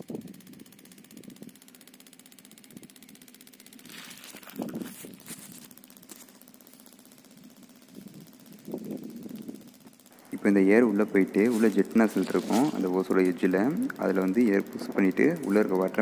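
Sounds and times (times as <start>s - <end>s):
air line ticking: 0.0s - 16.0s.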